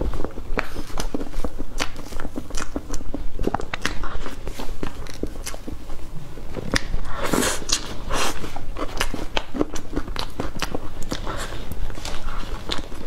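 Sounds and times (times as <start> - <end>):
wet chewing and lip smacking: 0.0 - 13.0.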